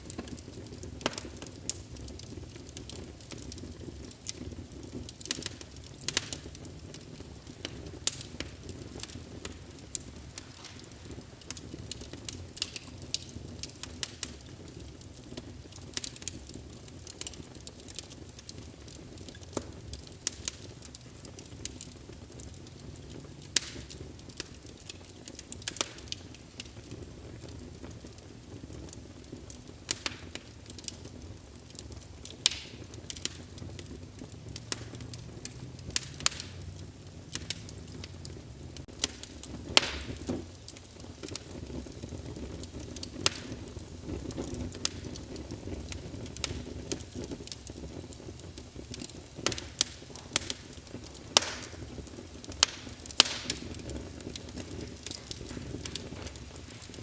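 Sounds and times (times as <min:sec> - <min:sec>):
logs crackling and popping: 0:00.0 - 0:57.0
rumble of flames: 0:00.0 - 0:57.0.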